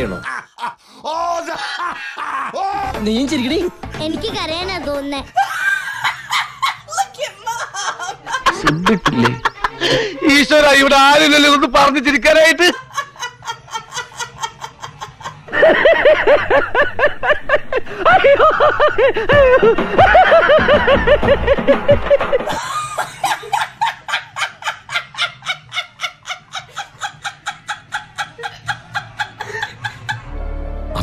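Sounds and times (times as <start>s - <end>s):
woman laughing uncontrollably: 0.0s - 2.6s, 5.4s - 10.1s, 12.7s - 30.3s.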